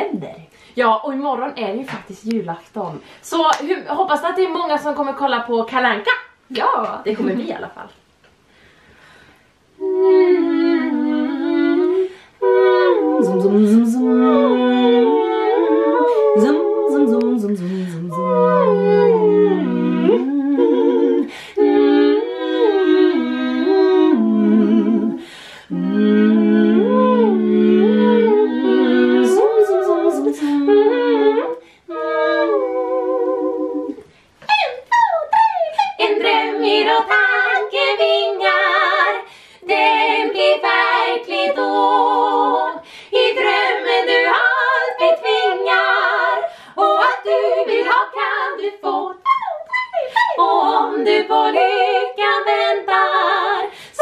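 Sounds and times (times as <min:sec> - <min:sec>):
women singing in harmony: 0:09.8 - 0:54.0.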